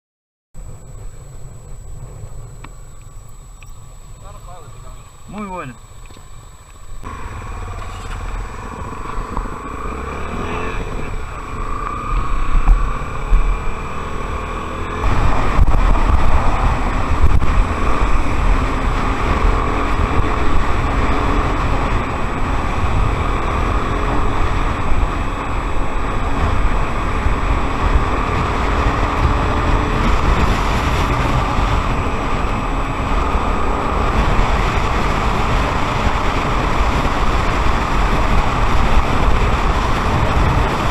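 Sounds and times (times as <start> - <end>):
motorcycle engine running: 0.6 - 40.9
rushing noise with low rumble: 0.6 - 40.9.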